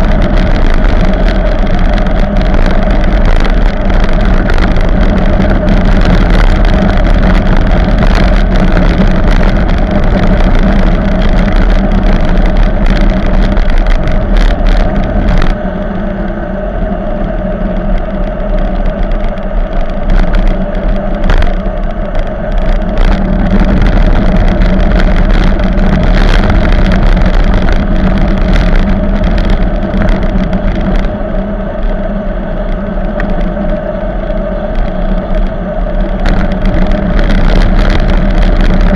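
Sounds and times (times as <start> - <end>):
bicycle tyre and road noise: 0.0 - 38.9
steady low hum: 0.0 - 38.9
wind rushing over microphone: 0.0 - 38.9.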